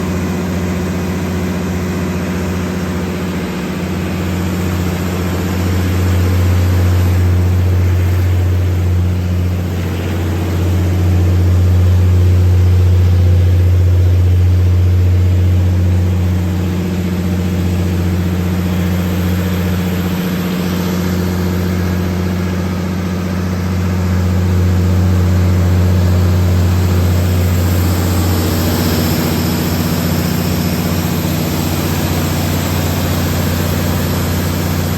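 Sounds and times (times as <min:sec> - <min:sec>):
diesel generator engine droning: 0:00.0 - 0:34.9.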